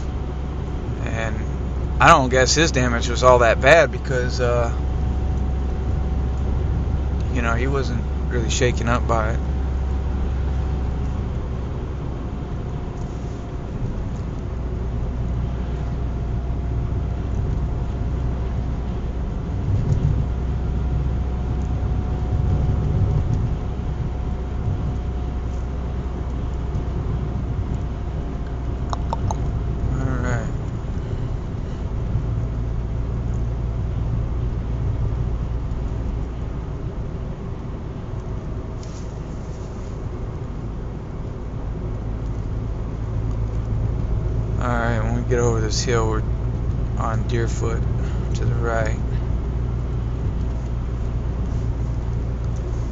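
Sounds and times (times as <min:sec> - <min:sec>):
car engine and tyre rumble: 0:00.0 - 0:52.9
faint steady whine: 0:00.0 - 0:52.9.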